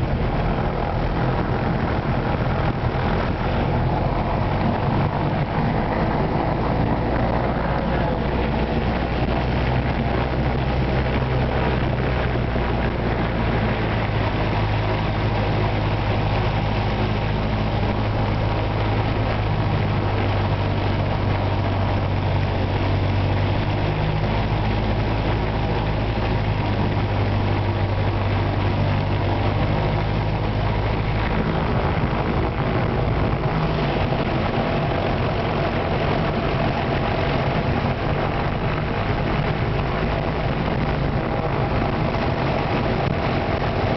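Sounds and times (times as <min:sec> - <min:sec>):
light aircraft engine drone: 0:00.0 - 0:43.9.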